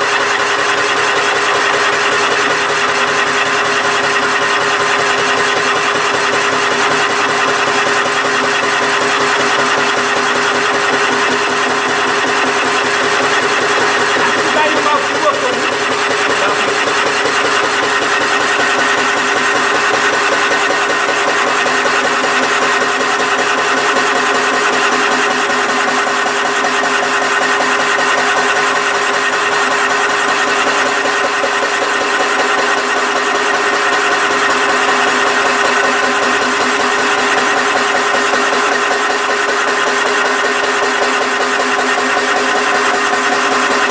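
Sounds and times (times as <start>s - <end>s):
machine humming and rattling: 0.0s - 43.9s.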